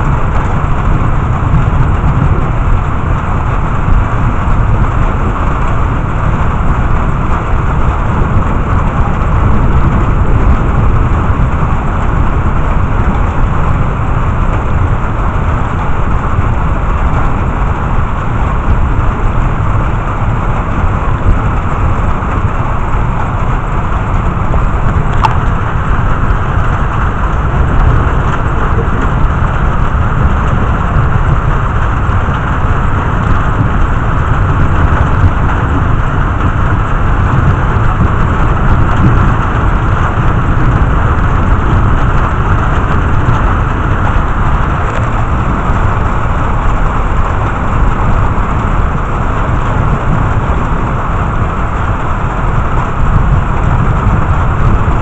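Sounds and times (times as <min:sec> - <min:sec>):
heavy rain: 0:00.0 - 0:55.0
low thunder rumble: 0:00.0 - 0:55.0.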